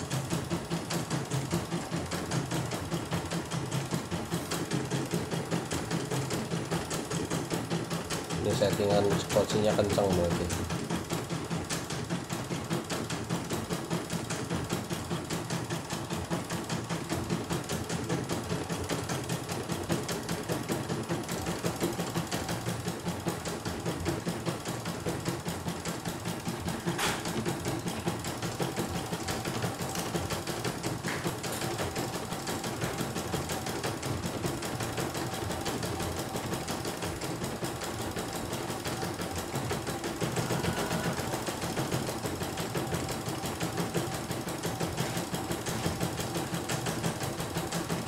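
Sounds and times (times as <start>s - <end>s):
embroidery machine stitching: 0.0s - 48.0s.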